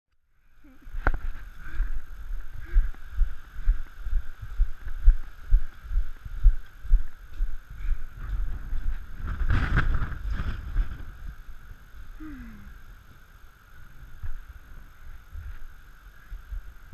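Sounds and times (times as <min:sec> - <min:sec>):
steady high hum: 0:00.1 - 0:16.9.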